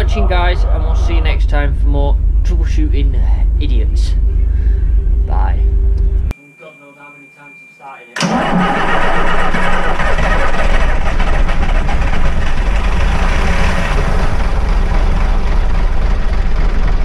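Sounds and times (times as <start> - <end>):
bus diesel engine idling: 0.0 - 6.3, 8.2 - 17.0.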